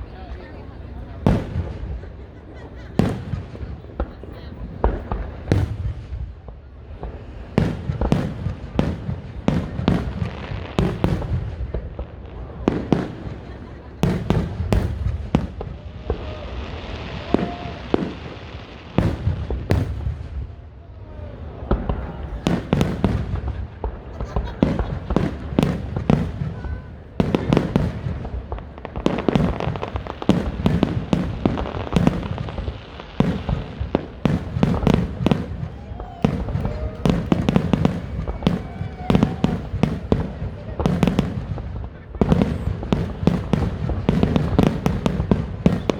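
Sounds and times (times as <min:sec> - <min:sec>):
firework bursts banging: 0:00.0 - 0:45.9.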